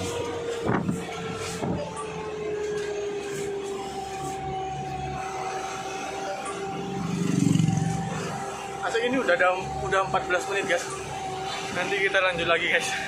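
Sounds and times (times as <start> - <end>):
road noise: 0.0 - 13.0
truck engine: 0.0 - 13.0.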